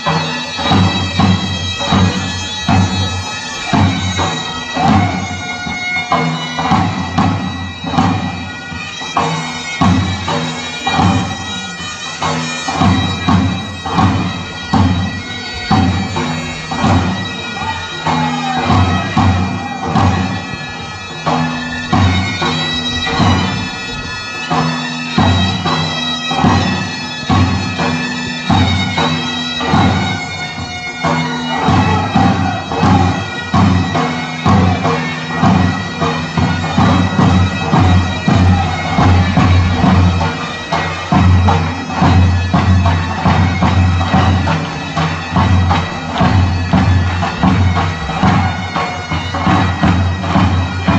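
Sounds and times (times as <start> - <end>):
large drum beating: 0.0 - 8.5, 12.2 - 50.9
bagpipe playing fast folk tune: 0.0 - 50.9.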